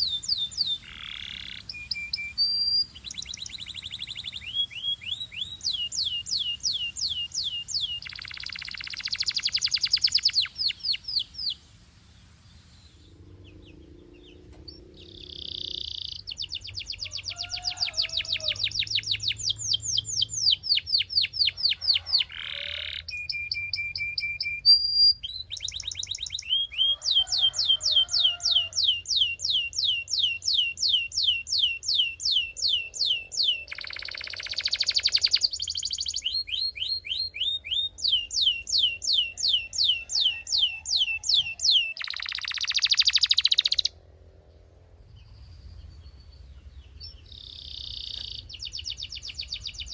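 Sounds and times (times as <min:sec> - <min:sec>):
canary singing trills: 0:00.0 - 0:44.0, 0:45.5 - 0:49.9.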